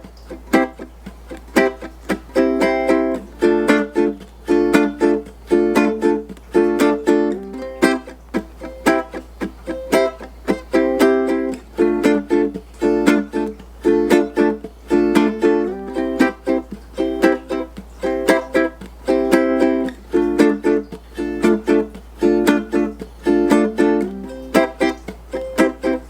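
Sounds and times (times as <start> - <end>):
ukulele strumming chords: 0.0 - 26.0.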